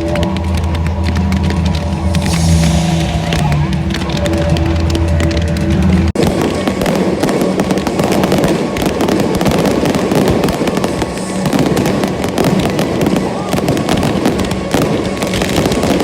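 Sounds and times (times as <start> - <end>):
fireworks crackling and popping: 0.0 - 16.0
low droning music: 0.0 - 16.0.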